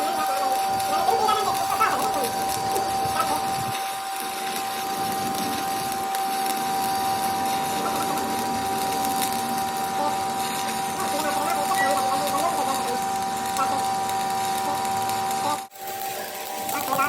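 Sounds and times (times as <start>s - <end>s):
machine humming and whirring: 0.0s - 17.0s.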